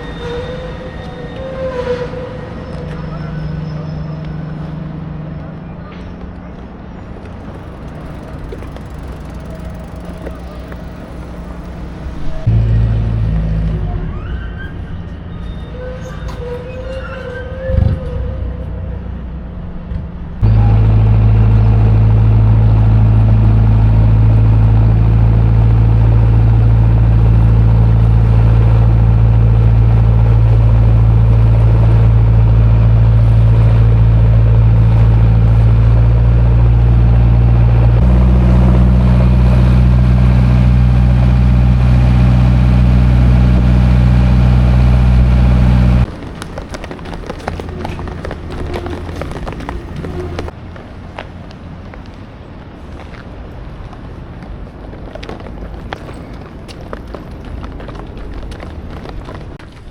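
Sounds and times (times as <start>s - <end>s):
boat engine droning: 0.0s - 52.5s.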